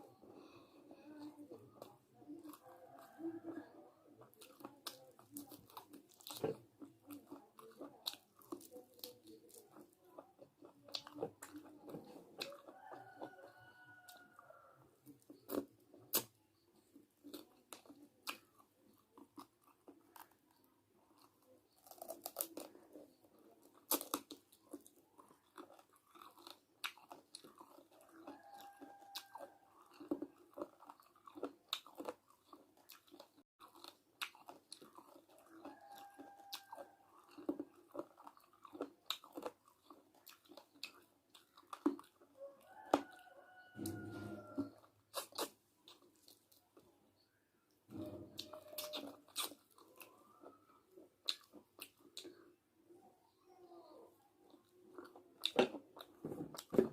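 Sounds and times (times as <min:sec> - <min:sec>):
person chewing and crunching: 0:00.0 - 0:47.0, 0:47.9 - 0:52.6, 0:54.2 - 0:56.9.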